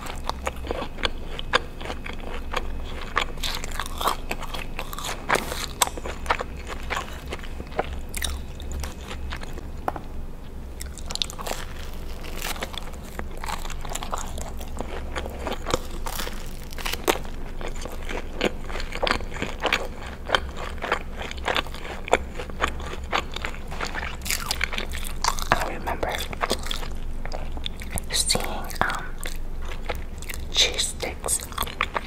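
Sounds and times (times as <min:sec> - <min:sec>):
chewing and biting bread: 0:00.0 - 0:09.8, 0:10.7 - 0:32.0.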